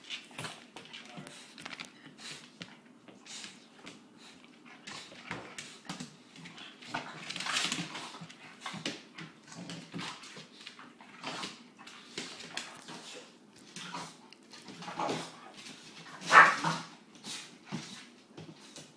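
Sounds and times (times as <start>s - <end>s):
dogs scuffling on tile floor: 0.0s - 18.9s.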